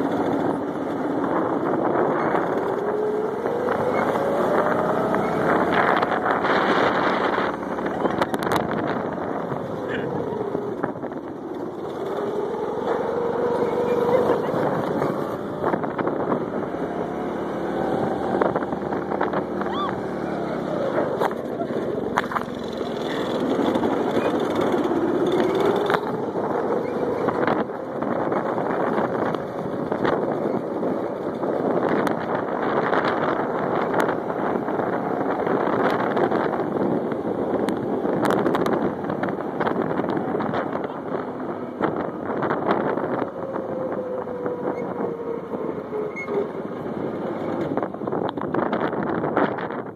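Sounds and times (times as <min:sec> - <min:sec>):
motorized vehicle rumbling: 0:00.0 - 0:49.9
wind buffeting microphone: 0:00.0 - 0:49.9.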